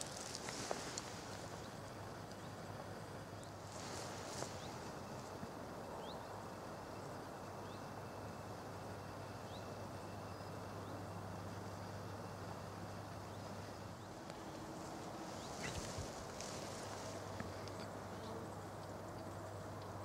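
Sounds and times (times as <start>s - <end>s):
steady hiss: 0.0s - 19.8s.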